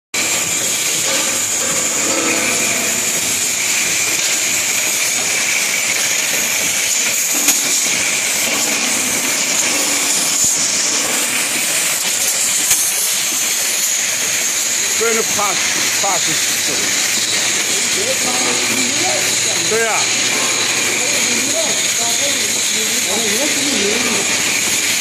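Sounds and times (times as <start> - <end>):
sharp machine click: 0.2 - 21.3
machine running with high hiss: 0.2 - 25.0.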